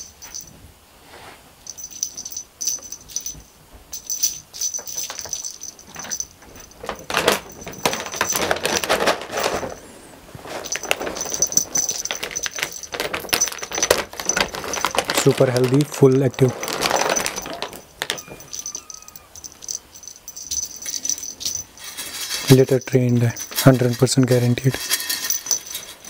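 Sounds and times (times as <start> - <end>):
small bell jingling: 0.0 - 0.6, 1.6 - 9.8, 10.5 - 26.0.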